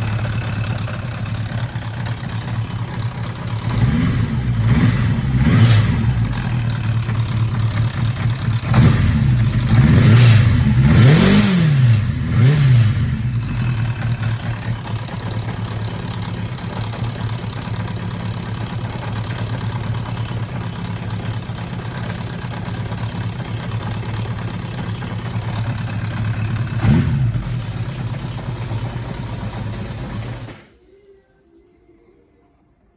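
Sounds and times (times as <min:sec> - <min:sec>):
motorcycle engine revving and idling: 0:00.0 - 0:30.7.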